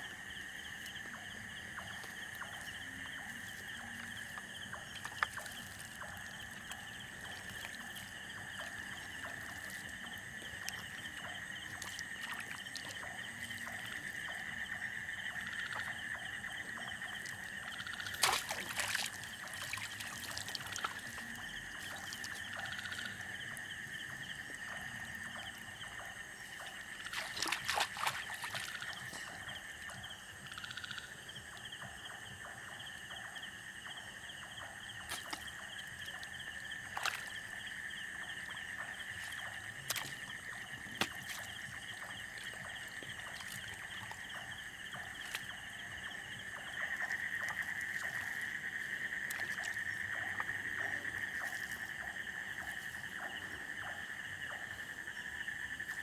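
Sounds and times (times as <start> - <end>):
feet wading through water: 0.0 - 30.1, 34.6 - 56.0.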